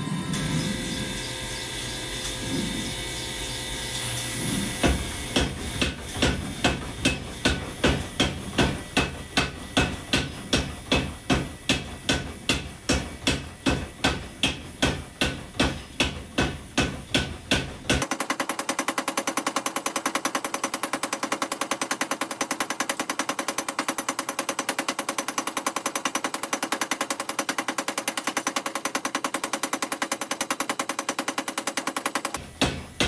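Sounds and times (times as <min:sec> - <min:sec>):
steady machine hum: 0:00.0 - 0:33.0
power hammer striking hot steel: 0:03.9 - 0:33.0.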